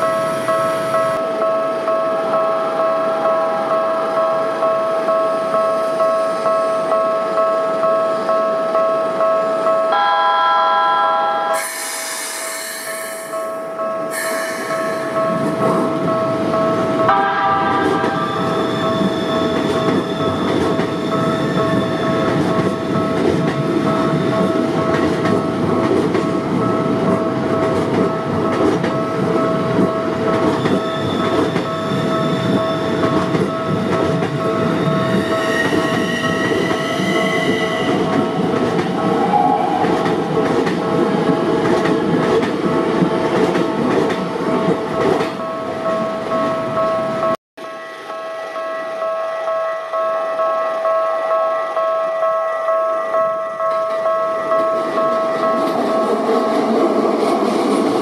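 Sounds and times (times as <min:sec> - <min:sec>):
crossing alarm ringing: 0:00.0 - 0:41.4, 0:44.4 - 0:56.8
electric train rumbling: 0:00.0 - 0:58.0.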